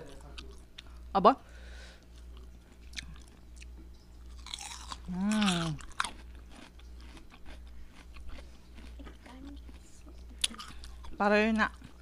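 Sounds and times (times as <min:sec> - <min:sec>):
chewing and crunching food: 0:00.0 - 0:01.1, 0:02.0 - 0:12.0.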